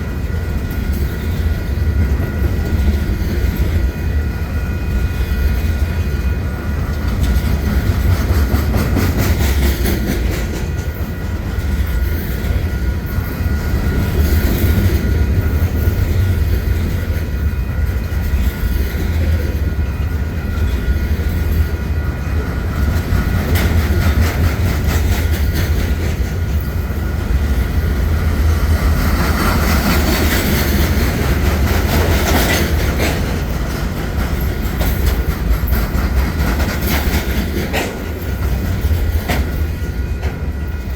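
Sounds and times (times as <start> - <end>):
freight train rumble: 0.0 - 40.9
train wheels clicking on rail joints: 0.0 - 40.9.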